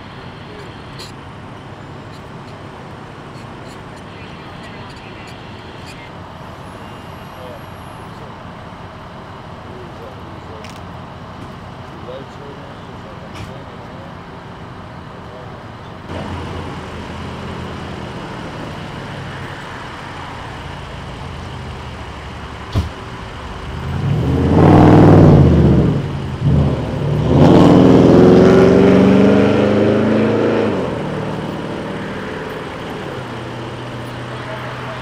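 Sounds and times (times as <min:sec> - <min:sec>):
engines humming: 0:00.0 - 0:35.0
loud engine noise: 0:00.0 - 0:35.0.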